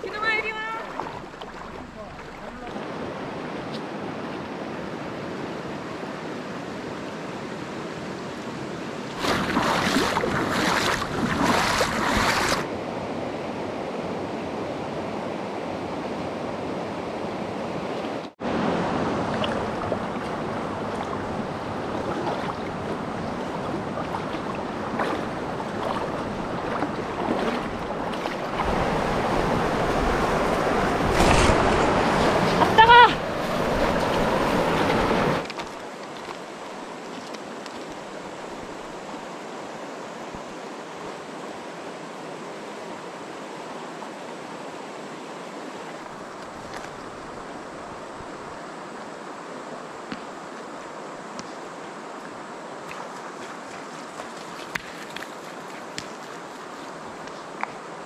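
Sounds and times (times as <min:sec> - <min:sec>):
stream rushing over rocks: 0:00.0 - 0:12.8, 0:17.4 - 0:58.0.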